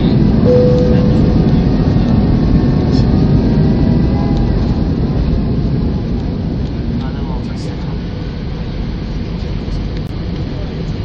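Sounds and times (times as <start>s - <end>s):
jet engines and airflow rumble: 0.0s - 11.0s.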